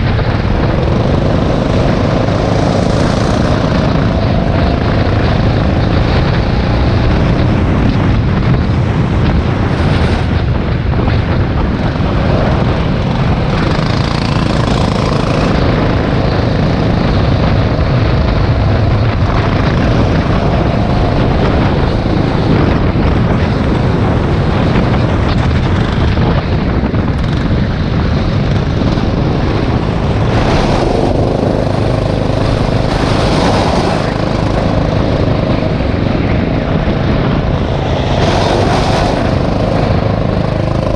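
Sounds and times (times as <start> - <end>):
go-kart engine buzzing: 0.0 - 40.9.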